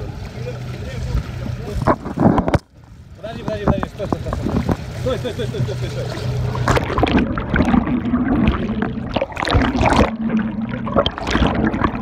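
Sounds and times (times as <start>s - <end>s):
boat engine hum: 0.0s - 12.0s
sea water splashing and gurgling: 0.0s - 12.0s.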